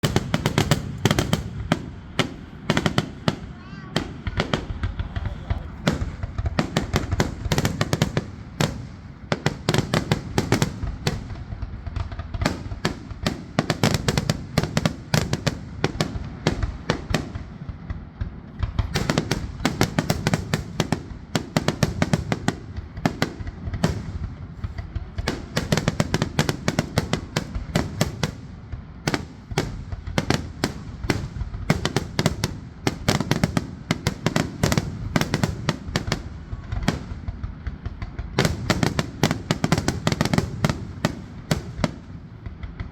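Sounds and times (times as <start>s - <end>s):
continuous low rumble: 0.0s - 42.9s.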